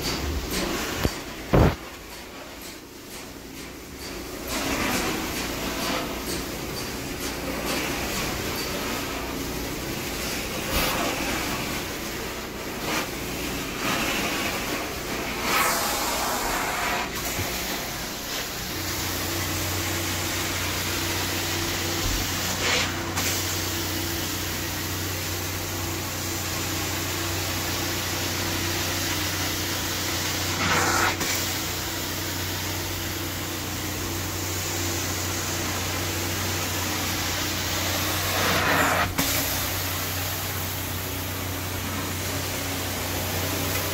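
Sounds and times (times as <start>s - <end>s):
carpet cleaner hissing rush: 0.0s - 43.9s.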